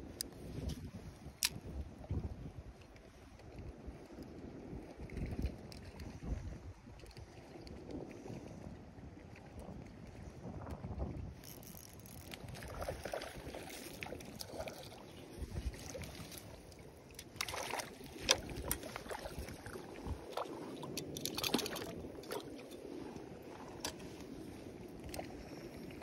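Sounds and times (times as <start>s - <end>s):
water splashing and sloshing: 0.0s - 26.0s
wind rumble on microphone: 0.0s - 26.0s.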